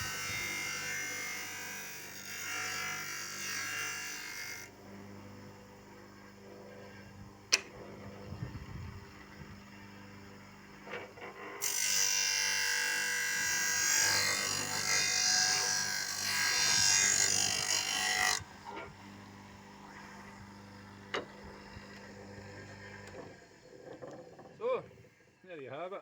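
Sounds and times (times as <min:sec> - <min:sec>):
table saw motor hum: 0:00.0 - 0:25.2.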